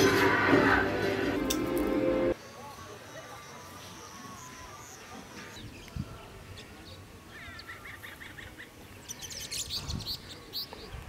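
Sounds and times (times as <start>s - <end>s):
birds chirping: 2.0s - 11.0s.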